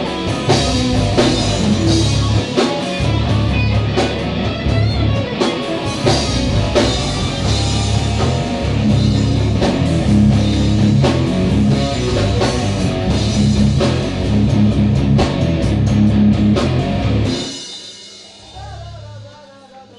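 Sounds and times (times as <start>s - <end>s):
heavy metal band playing: 0.0s - 19.6s.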